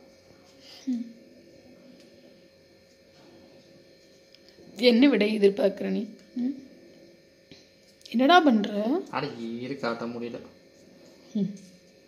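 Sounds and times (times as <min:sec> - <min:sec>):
thin steady hum: 0:00.0 - 0:12.0.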